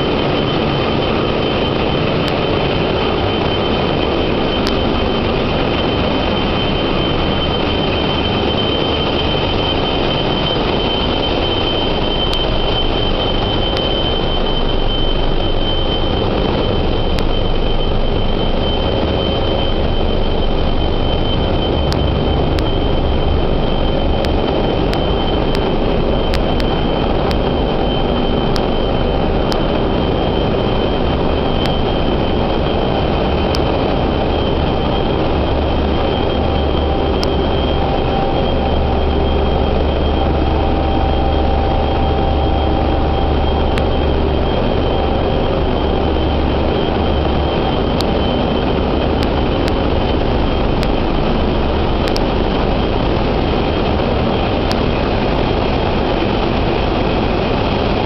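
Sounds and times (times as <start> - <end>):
engine room machinery din: 0.0 - 58.0
high machine whine: 0.0 - 58.0.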